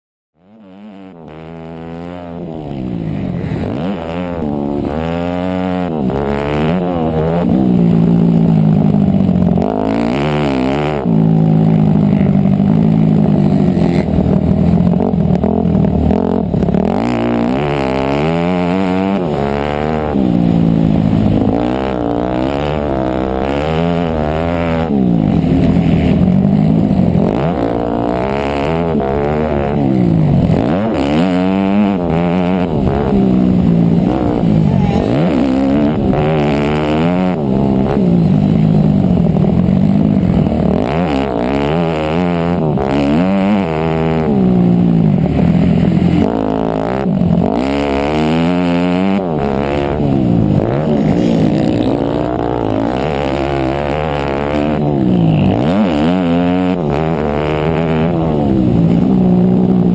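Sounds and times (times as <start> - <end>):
motocross bike engine revving: 0.4 - 59.9.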